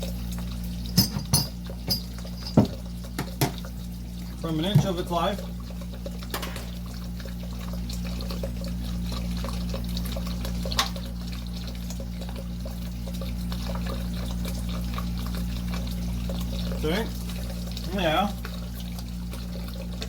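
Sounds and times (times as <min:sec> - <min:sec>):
water pouring and trickling: 0:00.0 - 0:20.0.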